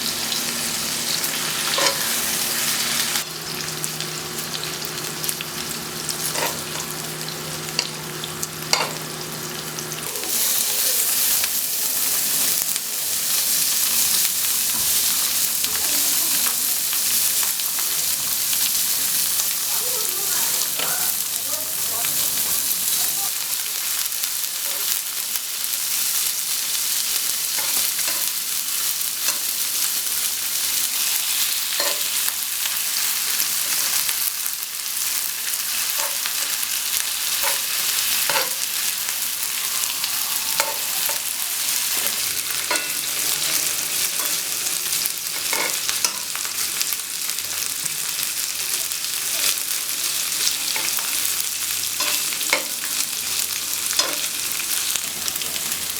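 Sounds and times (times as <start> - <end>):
fat sizzling on a grill: 0.0 - 55.9.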